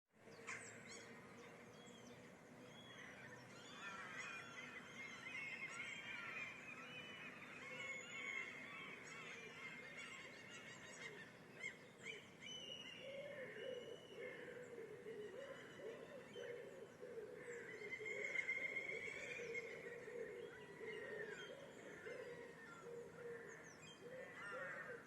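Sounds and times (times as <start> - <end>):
birds singing and chirping: 0.2 - 25.0.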